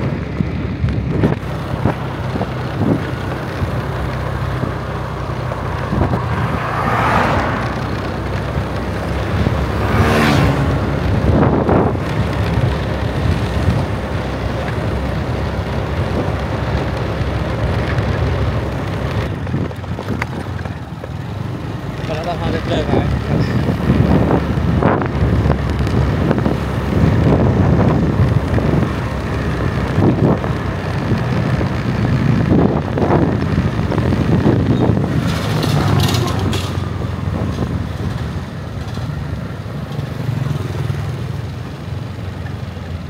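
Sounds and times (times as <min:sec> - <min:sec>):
vehicle engine hum: 0:00.0 - 0:43.0
vehicles passing: 0:00.0 - 0:43.0
wind and road noise: 0:00.0 - 0:43.0.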